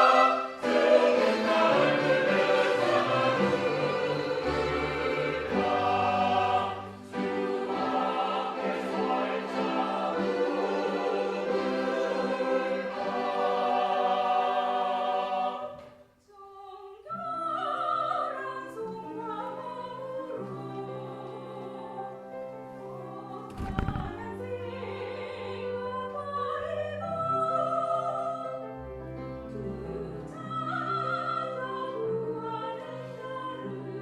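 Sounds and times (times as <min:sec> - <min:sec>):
church choir singing: 0:00.0 - 0:16.1, 0:16.8 - 0:34.0.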